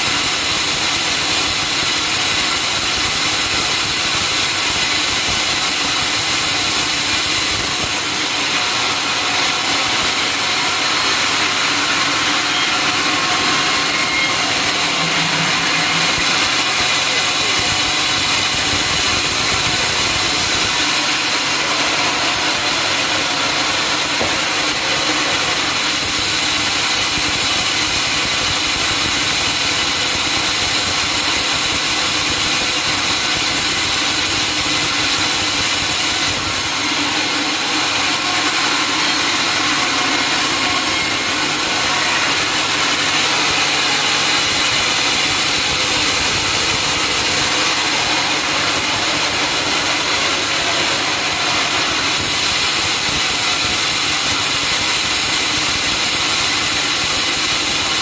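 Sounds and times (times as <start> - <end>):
sawmill saw drone: 0.0 - 58.0.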